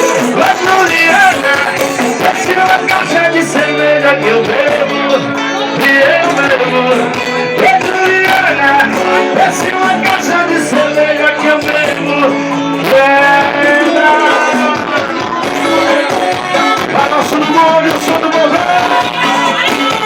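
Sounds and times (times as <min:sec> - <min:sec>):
guitar: 0:00.0 - 0:20.0
live band playing: 0:00.0 - 0:20.0
person singing: 0:00.0 - 0:20.0.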